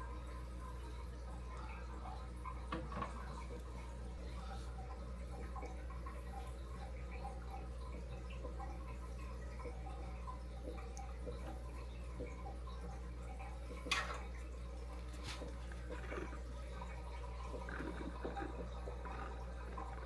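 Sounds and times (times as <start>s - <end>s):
steady low hum: 0.0s - 20.0s
water trickling and dripping: 0.0s - 20.0s.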